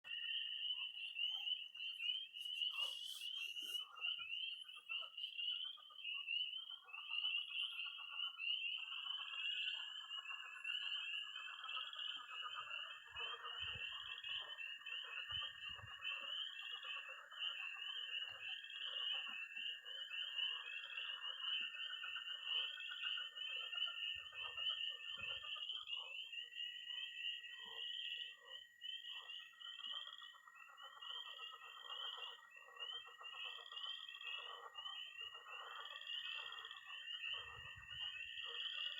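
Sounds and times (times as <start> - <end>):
frogs croaking: 0.0 - 38.9
spring peepers calling: 0.0 - 38.9
toads trilling: 0.0 - 38.9.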